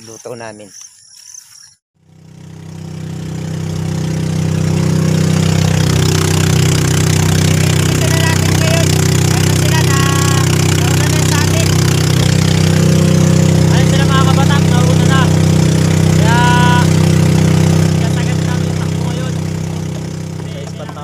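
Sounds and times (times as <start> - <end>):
motorboat engine running: 2.0 - 21.0.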